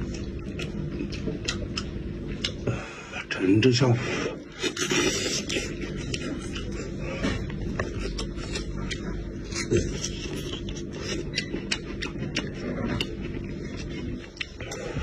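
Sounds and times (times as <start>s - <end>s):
wet chewing and lip-smacking: 0.0s - 2.7s, 4.5s - 15.0s
low hum: 0.0s - 15.0s.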